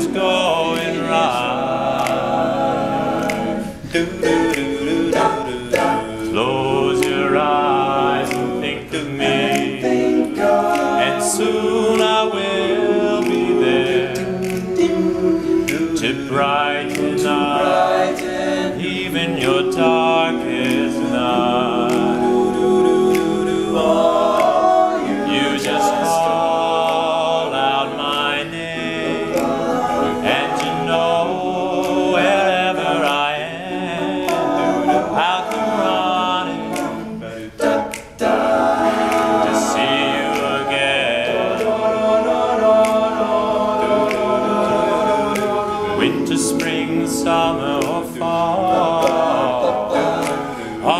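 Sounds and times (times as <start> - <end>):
male a cappella group singing: 0.0 - 50.9.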